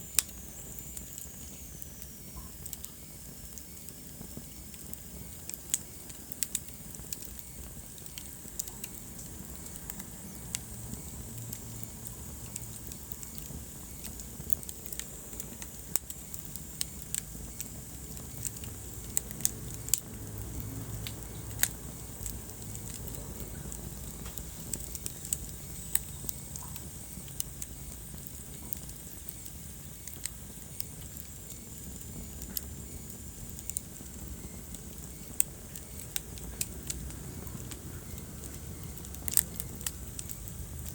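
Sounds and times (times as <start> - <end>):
wood fire crackling in fireplace: 0.0 - 40.9.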